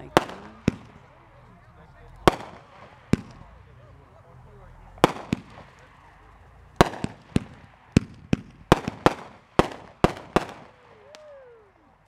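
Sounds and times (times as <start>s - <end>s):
firework shells bursting: 0.0s - 11.5s.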